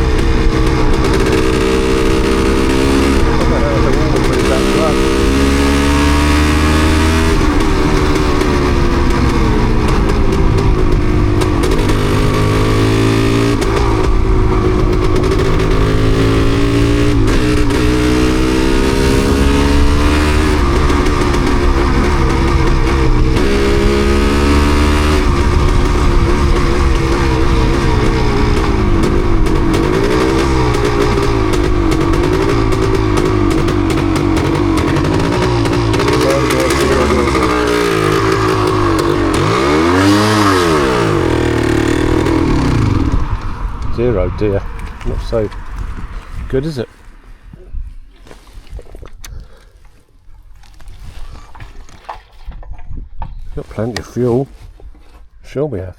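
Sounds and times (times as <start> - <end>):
motorcycle engine misfiring: 0.0 - 46.8.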